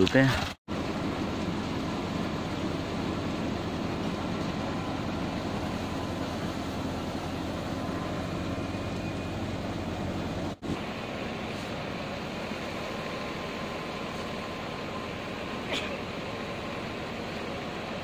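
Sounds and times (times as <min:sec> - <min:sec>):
thresher machine droning: 0:00.0 - 0:18.0.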